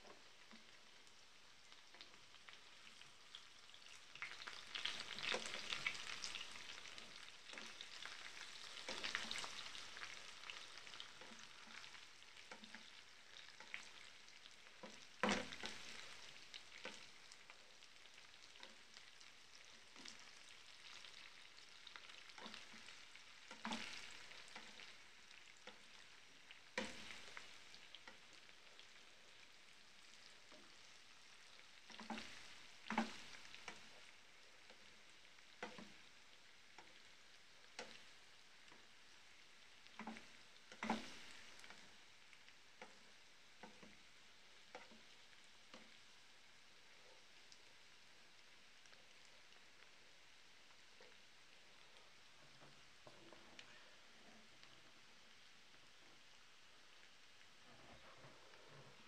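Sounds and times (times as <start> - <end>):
potatoes sizzling in a pan: 0.0 - 59.0.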